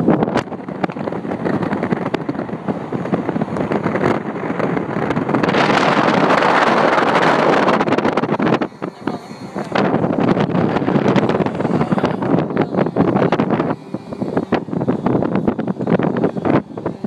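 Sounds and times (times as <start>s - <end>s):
vehicle road noise: 0.0s - 17.0s
wind buffeting microphone: 0.0s - 17.0s.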